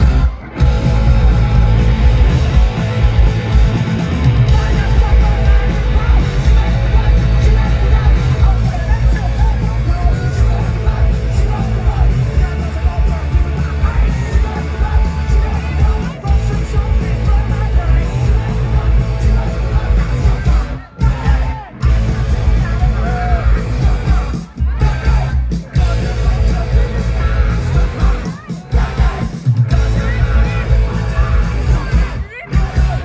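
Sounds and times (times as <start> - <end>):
bass guitar: 0.0 - 33.0
drums: 0.0 - 33.0
electric guitars: 0.0 - 33.0
person singing: 0.0 - 33.0.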